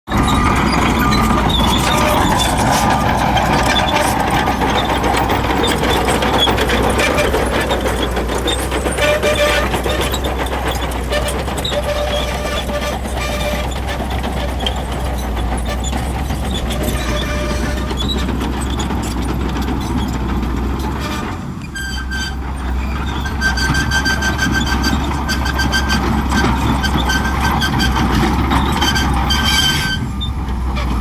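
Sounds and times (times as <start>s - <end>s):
bulldozer diesel engine rumbling: 0.1s - 31.0s.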